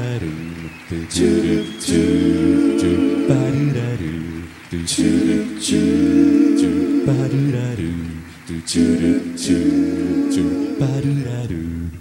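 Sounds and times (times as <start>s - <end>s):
a cappella group singing chords: 0.0s - 12.0s.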